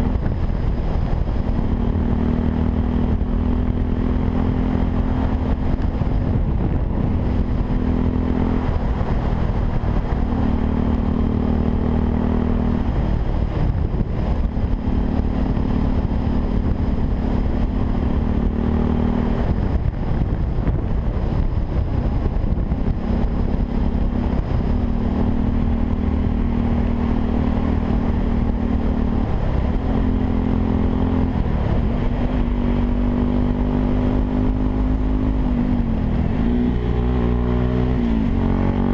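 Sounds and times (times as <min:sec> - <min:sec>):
motorcycle engine running: 0:00.0 - 0:38.9
wind noise: 0:00.0 - 0:38.9.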